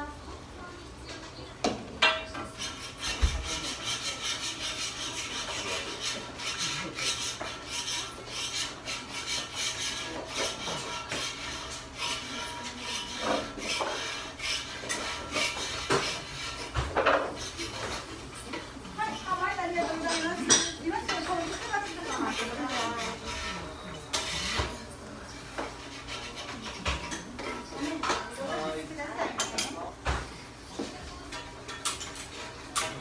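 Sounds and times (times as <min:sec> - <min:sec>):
metal spatulas scraping griddle: 0:02.0 - 0:29.8, 0:31.2 - 0:33.0.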